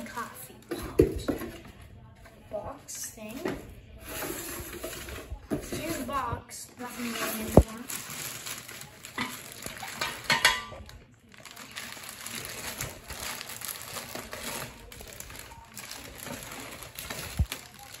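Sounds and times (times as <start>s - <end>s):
plastic bag and bubble wrap crinkling: 0.0s - 18.0s.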